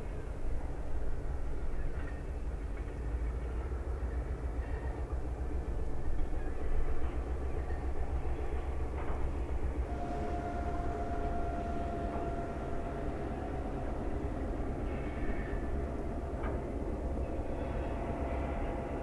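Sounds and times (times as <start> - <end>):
diesel locomotive engine rumble: 0.0 - 19.0
train cars rolling: 0.0 - 19.0.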